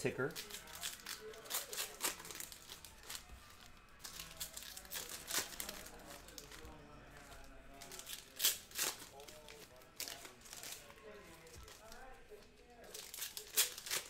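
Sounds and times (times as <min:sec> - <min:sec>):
card pack wrappers crinkling: 0:00.3 - 0:14.0.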